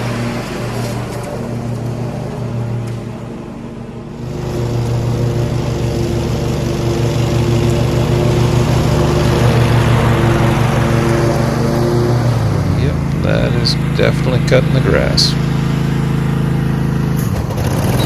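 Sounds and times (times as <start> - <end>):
lawn tractor engine running: 0.0 - 18.0.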